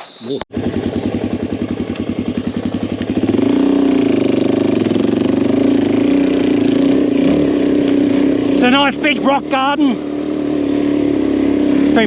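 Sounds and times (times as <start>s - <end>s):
motorcycle engine revving: 0.5s - 12.0s.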